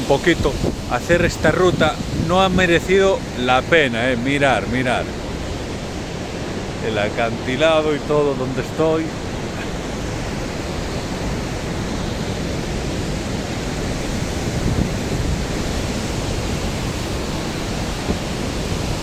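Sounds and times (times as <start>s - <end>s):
wind on the microphone: 0.0s - 19.0s
sea waves breaking on rocks: 0.2s - 19.0s.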